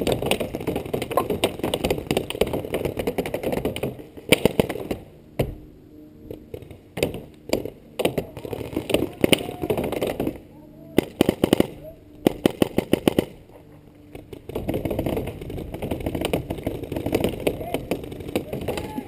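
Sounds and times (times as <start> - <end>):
paintball markers firing: 0.0 - 5.0, 6.5 - 13.4, 14.1 - 19.0.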